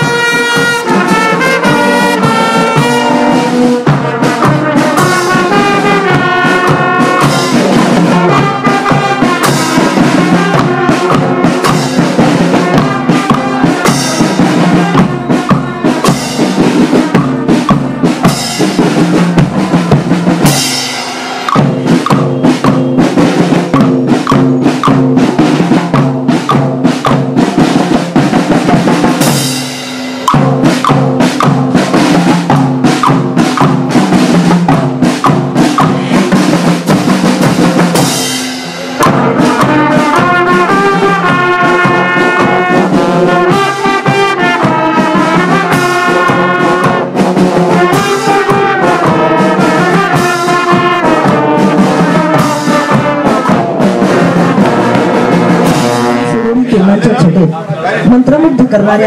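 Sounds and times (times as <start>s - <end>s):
brass melody: 0.0s - 57.3s
music with drums and brass: 0.0s - 59.0s.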